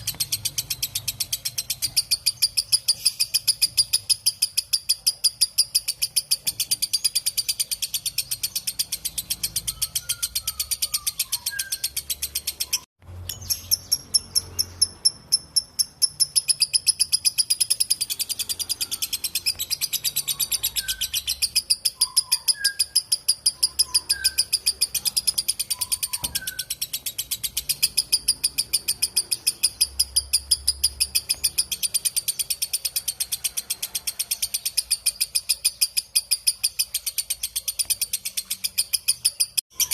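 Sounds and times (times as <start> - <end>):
bird rapid shrill chattering: 0.0 - 39.9
faint bird chirps: 0.0 - 39.9.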